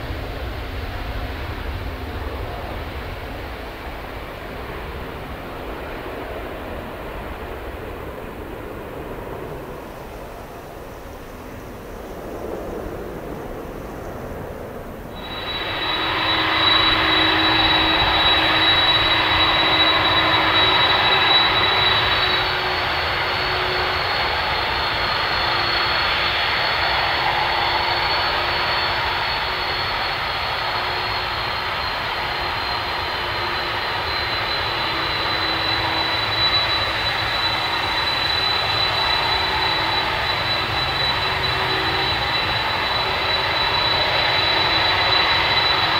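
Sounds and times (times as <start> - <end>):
jet engines with high whine: 0.0 - 45.9.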